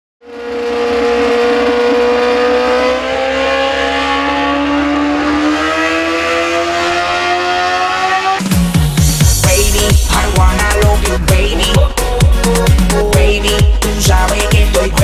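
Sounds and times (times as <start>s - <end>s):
motorbike engine revving high: 0.2s - 13.9s.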